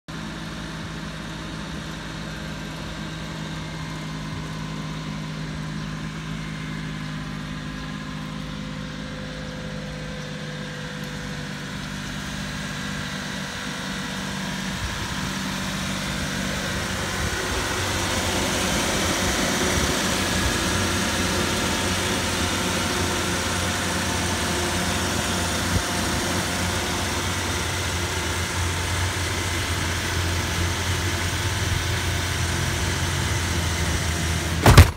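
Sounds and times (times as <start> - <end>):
small truck engine idling: 0.1 - 34.9.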